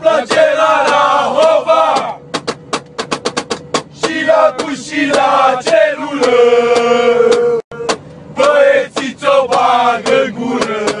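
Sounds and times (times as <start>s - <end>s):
fast percussion hits: 0.2s - 11.0s.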